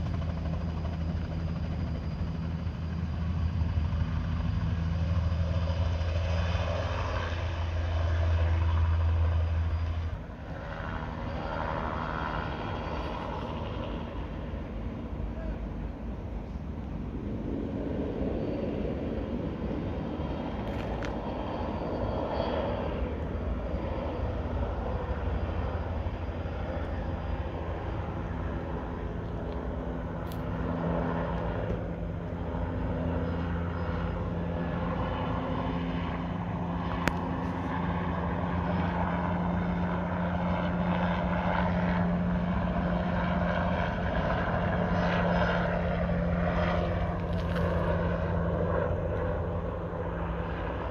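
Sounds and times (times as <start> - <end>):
helicopter in flight: 0.0 - 50.9.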